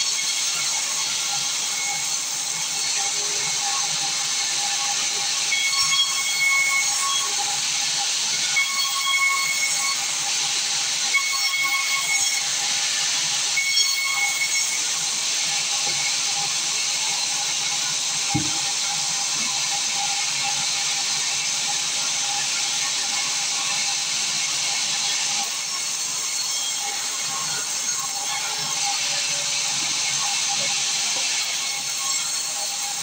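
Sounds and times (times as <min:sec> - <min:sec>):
sawmill saw cutting timber: 0:00.0 - 0:33.0.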